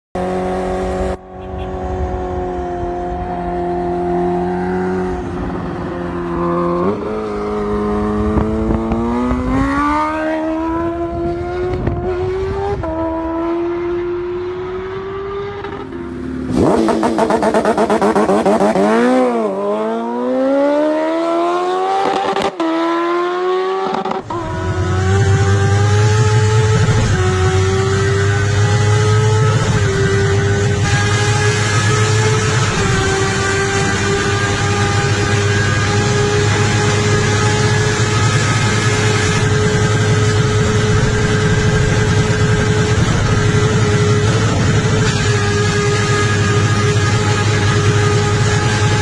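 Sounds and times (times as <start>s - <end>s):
engine revving through gears: 6.3s - 49.0s.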